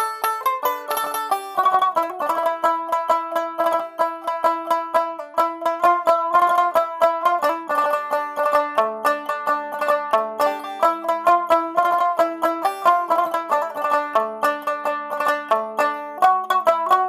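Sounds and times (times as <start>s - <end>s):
plucked string instrumental music: 0.0s - 17.0s.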